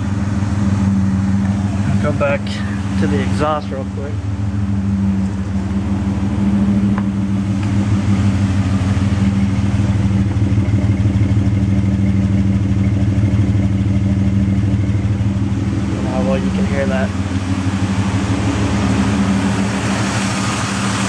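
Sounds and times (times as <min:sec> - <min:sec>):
car exhaust idling: 0:00.0 - 0:21.0.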